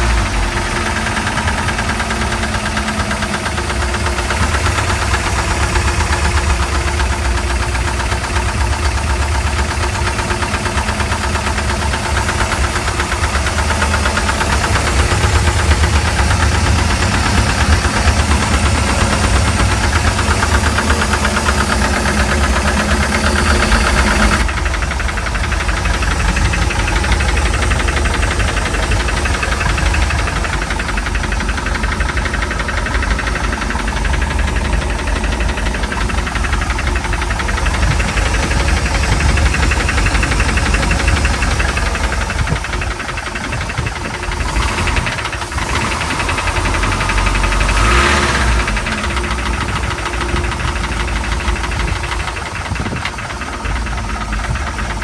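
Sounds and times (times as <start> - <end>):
marine engine knocking: 0.0 - 55.0.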